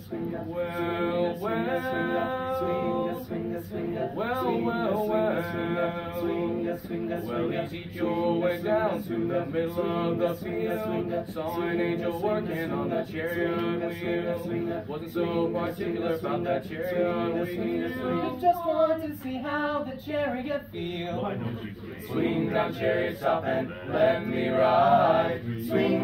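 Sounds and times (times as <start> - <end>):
male choir singing a cappella: 0.0 - 26.0.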